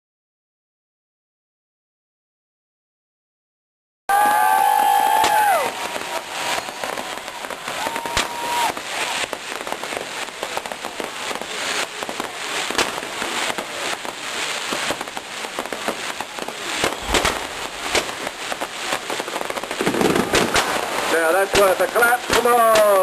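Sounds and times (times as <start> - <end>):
fireworks bangs: 4.1 - 23.0
fireworks crackling and popping: 4.1 - 23.0
fireworks whistle: 4.1 - 23.0.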